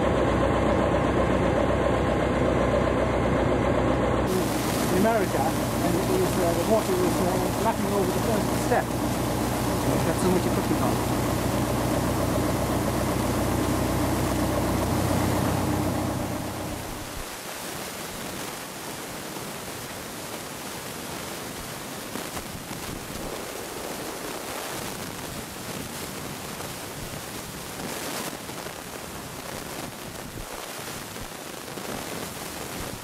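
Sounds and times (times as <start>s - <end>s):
outdoor ambience hiss: 4.2s - 33.0s.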